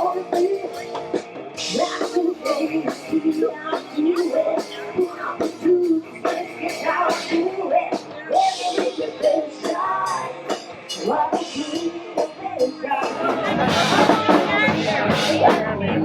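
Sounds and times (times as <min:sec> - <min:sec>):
drum kit beat: 0:00.0 - 0:16.0
rock music with singer: 0:00.0 - 0:16.0.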